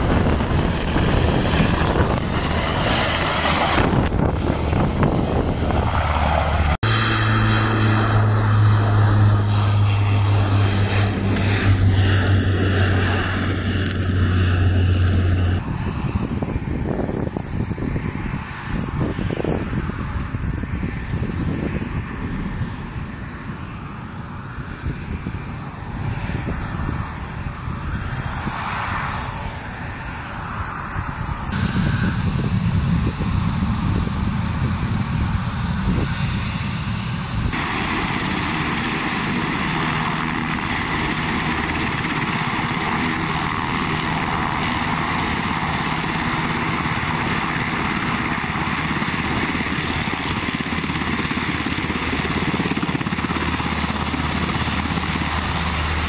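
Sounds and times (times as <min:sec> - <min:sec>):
heavy steady jet engine noise: 0:00.0 - 0:56.0
jet passing low with whine: 0:00.0 - 0:56.0.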